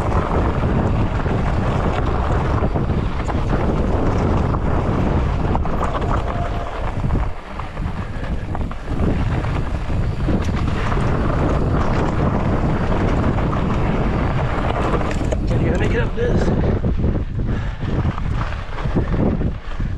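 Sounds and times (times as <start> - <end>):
bike rumbling on rocky trail: 0.0 - 19.9
wind rushing over microphone: 0.0 - 19.9.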